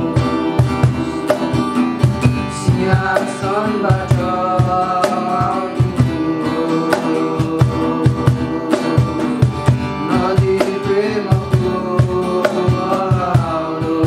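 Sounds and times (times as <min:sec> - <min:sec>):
worship song: 0:00.0 - 0:14.0.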